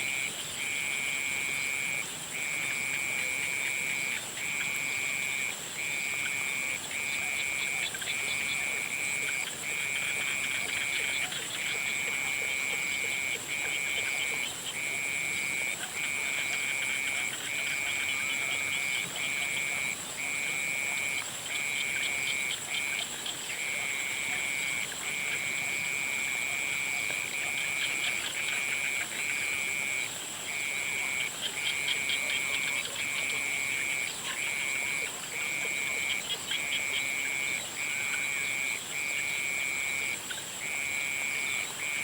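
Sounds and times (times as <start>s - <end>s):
frogs trilling: 0.0s - 42.0s.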